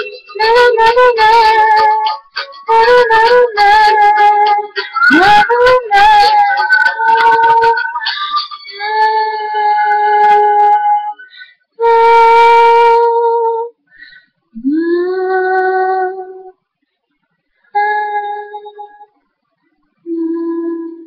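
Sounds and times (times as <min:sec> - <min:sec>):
woman singing long notes: 0:00.0 - 0:11.2, 0:11.8 - 0:13.8, 0:14.6 - 0:16.5, 0:17.8 - 0:19.1, 0:20.1 - 0:21.0.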